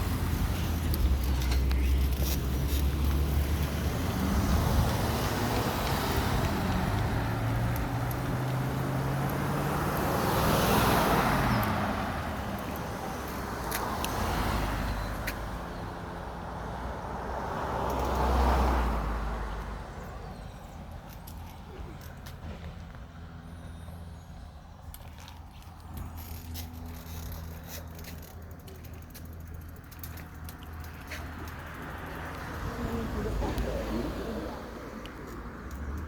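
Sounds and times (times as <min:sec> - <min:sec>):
vehicles passing close by: 0:00.0 - 0:36.0.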